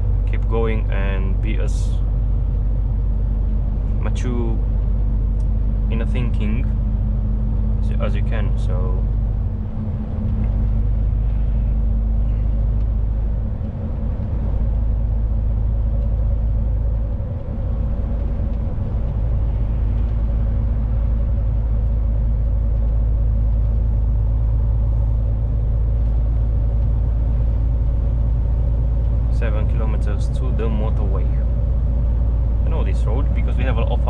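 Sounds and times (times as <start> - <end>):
constant hum: 0.0 - 34.0
lorry engine and road rumble: 0.0 - 34.0.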